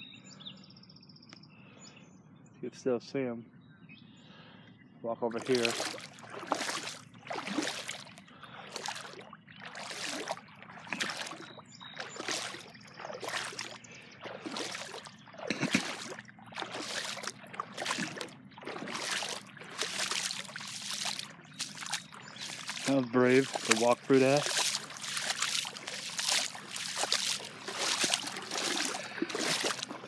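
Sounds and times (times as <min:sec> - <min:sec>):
wading through water splashing: 0:05.2 - 0:30.0.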